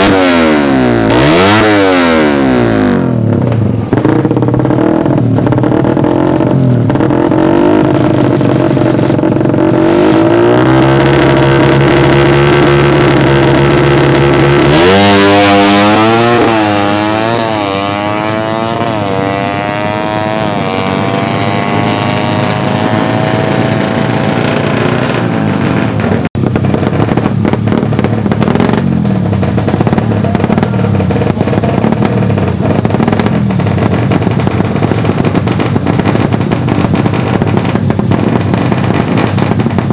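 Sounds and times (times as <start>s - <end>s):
engine throttle blips: 0.0s - 39.9s
motorcycle accelerating through gears: 0.0s - 39.9s
motorcycle engines revving high: 0.0s - 39.9s.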